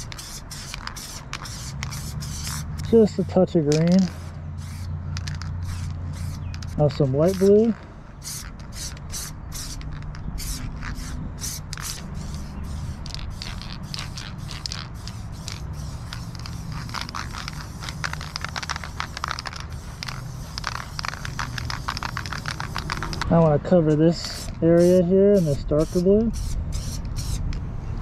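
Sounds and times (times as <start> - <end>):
spray paint can hissing: 0.0 - 27.6
low steady rumble: 0.1 - 28.0.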